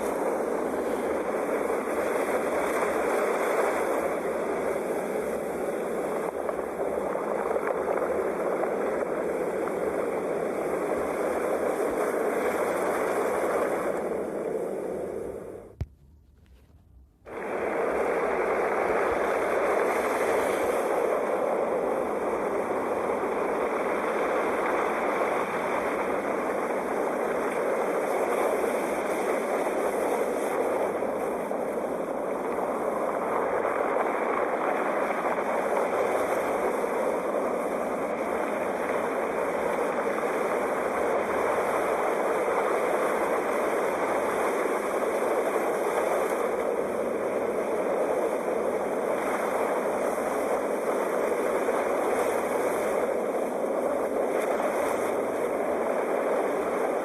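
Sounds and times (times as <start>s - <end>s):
sea waves washing in: 0.0s - 15.8s, 16.8s - 57.0s.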